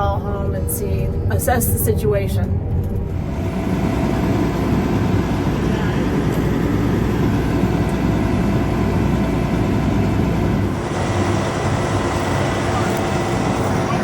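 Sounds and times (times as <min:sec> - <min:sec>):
combine harvester engine rumbling: 0:00.0 - 0:14.0.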